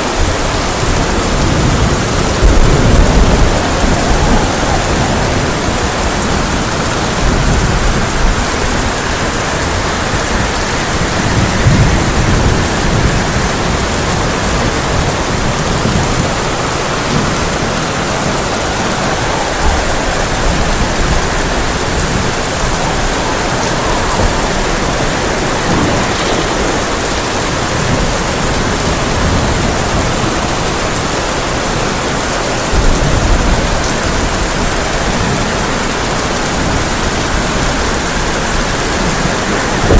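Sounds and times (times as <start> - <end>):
heavy rain on a tin roof: 0.0 - 39.9
thunder rumbling: 0.0 - 39.9.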